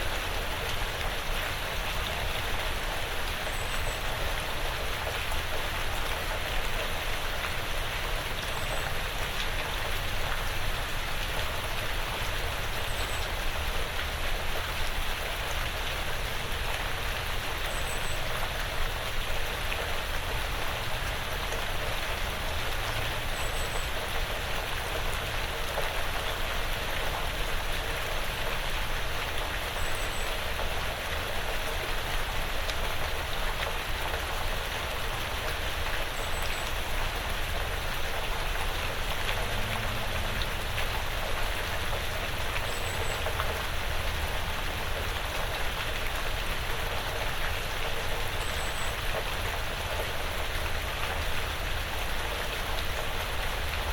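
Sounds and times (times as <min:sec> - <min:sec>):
rain pattering on roof: 0:00.0 - 0:53.9.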